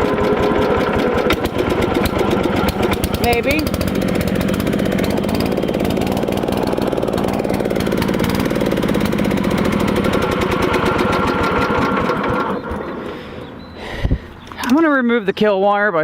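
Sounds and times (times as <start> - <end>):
small mower engine running: 0.0 - 14.6.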